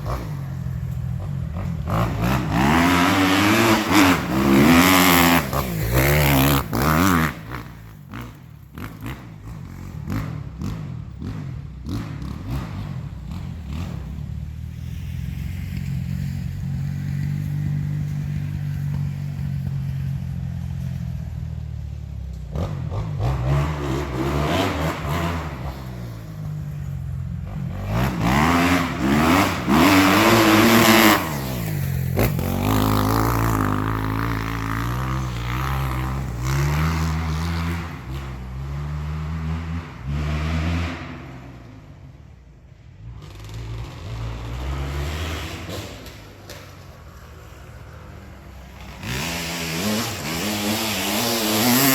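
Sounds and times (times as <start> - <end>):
motocross bike engine revving: 0.0 - 20.1, 22.4 - 51.9.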